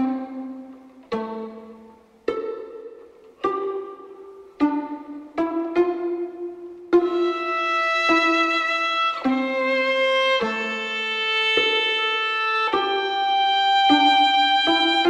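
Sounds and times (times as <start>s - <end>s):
solo violin slow notes: 0.0s - 15.0s.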